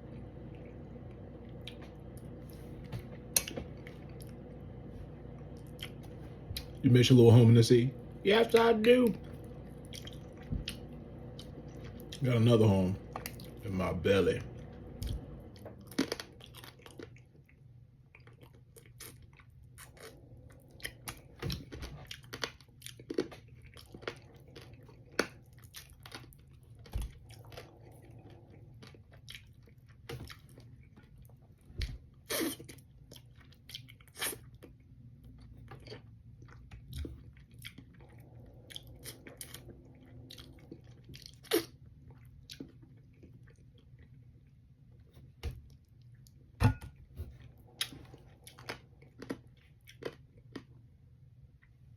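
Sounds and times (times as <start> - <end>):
person chewing crunchy food: 0.1 - 6.8, 9.2 - 12.2, 13.0 - 13.7, 15.0 - 46.5, 47.3 - 51.8.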